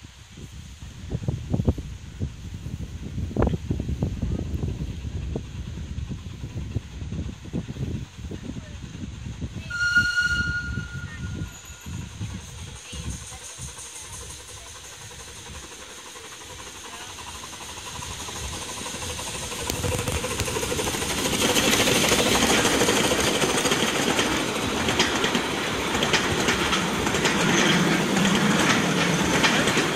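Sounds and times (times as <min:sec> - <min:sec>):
miniature steam train passing: 0:00.0 - 0:29.9
wheels clattering on track: 0:03.3 - 0:29.9.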